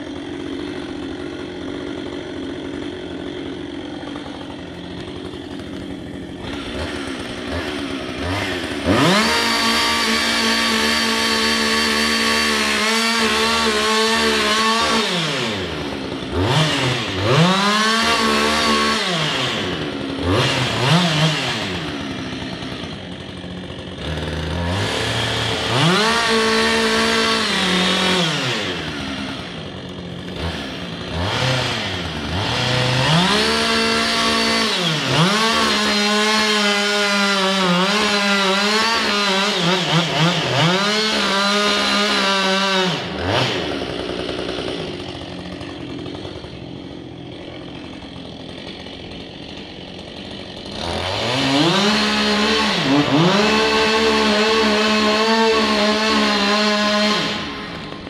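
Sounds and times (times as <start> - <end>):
chainsaw idling and revving: 0.0 - 58.0.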